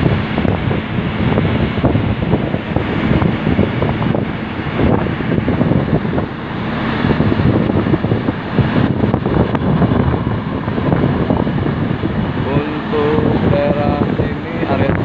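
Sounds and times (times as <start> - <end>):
rail vehicle running on track: 0.0 - 15.0
wind buffeting microphone: 0.0 - 15.0.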